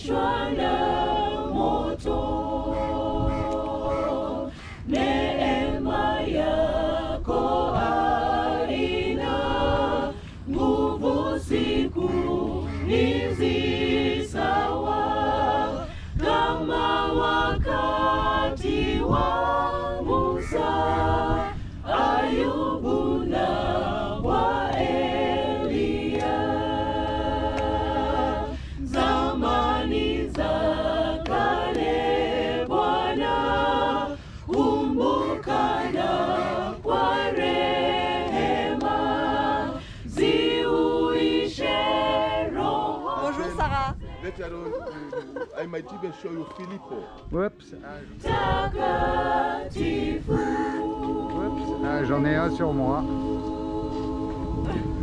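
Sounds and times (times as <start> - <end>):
a cappella choir singing: 0.0 - 55.0.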